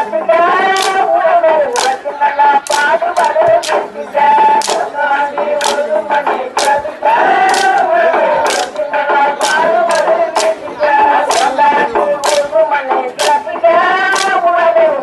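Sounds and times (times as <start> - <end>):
group singing folk song in unison: 0.0 - 15.0
sharp rhythmic strikes: 0.0 - 15.0.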